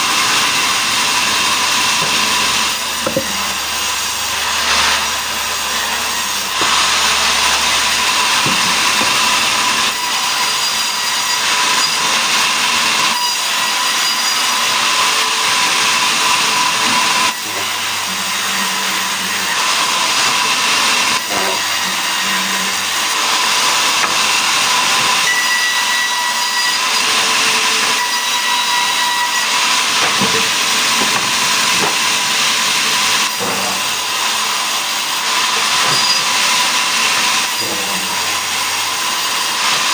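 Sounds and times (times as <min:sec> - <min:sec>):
sawmill saw cutting logs: 0:00.0 - 0:39.9.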